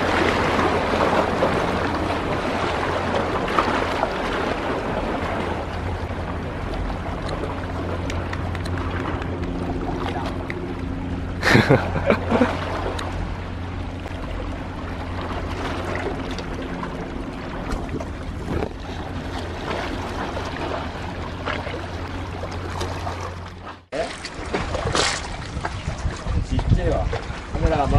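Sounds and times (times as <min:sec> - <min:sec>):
distant engine drone: 0:00.0 - 0:26.0.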